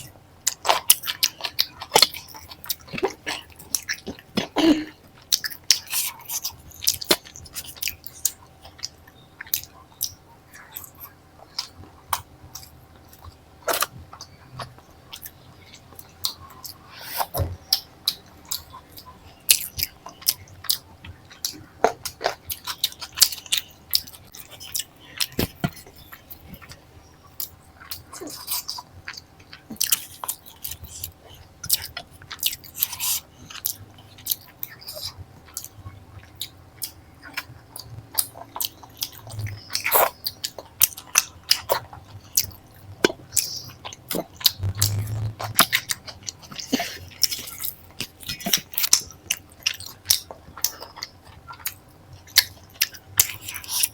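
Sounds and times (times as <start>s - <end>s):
chewing and mouth smacking: 0.0s - 53.9s.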